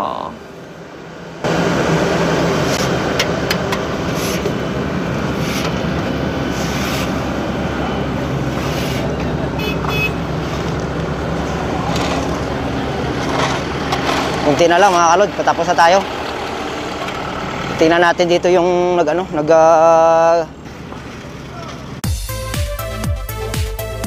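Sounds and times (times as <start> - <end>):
diesel engine running: 0.0 - 22.1.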